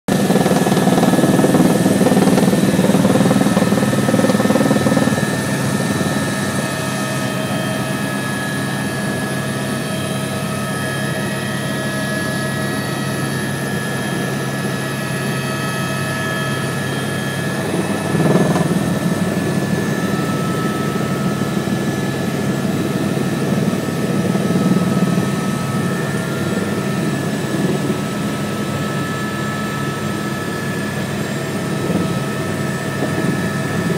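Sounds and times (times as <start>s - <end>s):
helicopter turbine and rotor: 0.1s - 33.9s.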